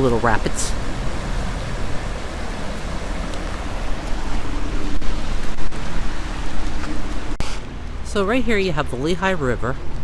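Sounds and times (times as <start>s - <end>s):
water rushing over rapids: 0.0s - 10.0s.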